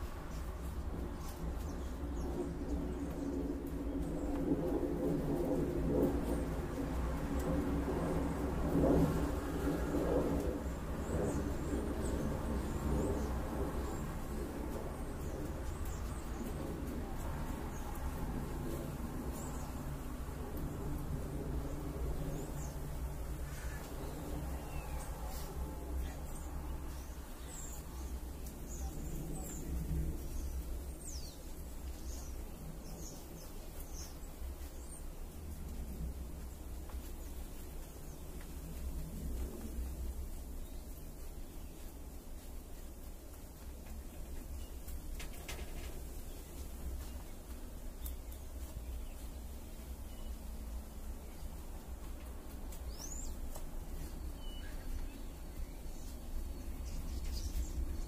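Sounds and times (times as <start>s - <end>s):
road traffic rumble: 0.0s - 58.0s
small birds chirping: 0.0s - 58.0s.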